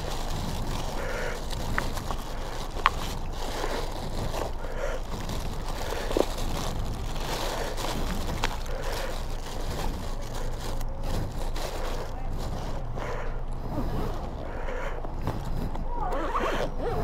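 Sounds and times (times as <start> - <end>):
plastic bags rustling and crinkling: 0.0 - 17.0.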